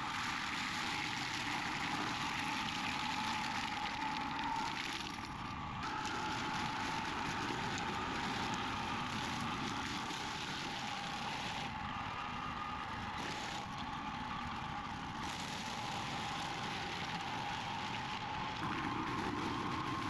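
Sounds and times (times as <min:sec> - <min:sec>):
mower engine drone: 0:00.0 - 0:20.0.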